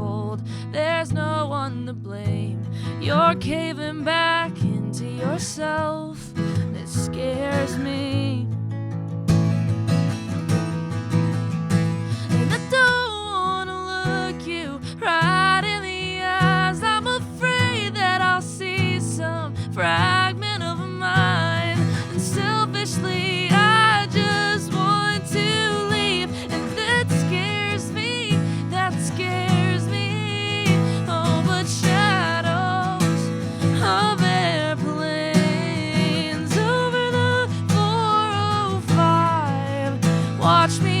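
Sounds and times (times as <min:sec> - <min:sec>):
acoustic guitar: 0:00.0 - 0:41.0.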